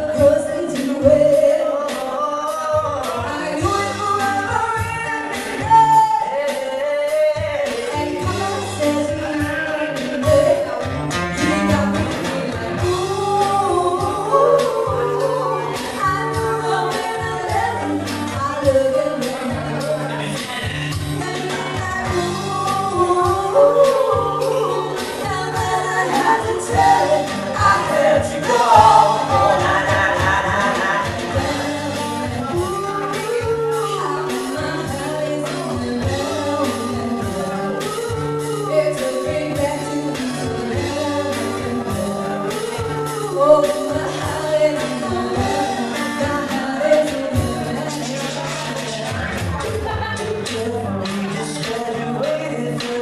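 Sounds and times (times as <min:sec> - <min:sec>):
acoustic-electric guitar: 0:00.0 - 0:53.0
drum kit beat with cymbals: 0:00.0 - 0:53.0
woman singing: 0:00.0 - 0:53.0
bass line: 0:02.8 - 0:06.3, 0:07.1 - 0:53.0.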